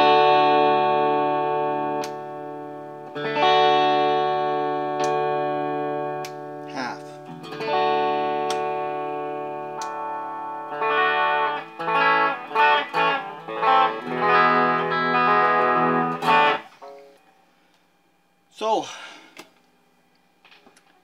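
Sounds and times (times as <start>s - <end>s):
electric guitar strumming chords: 0.0s - 17.2s.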